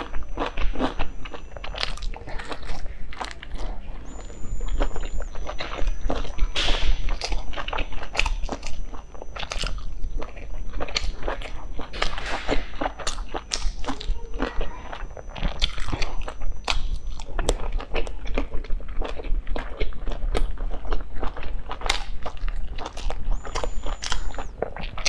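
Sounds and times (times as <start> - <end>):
close chewing and mouth sounds: 0.0 - 25.0.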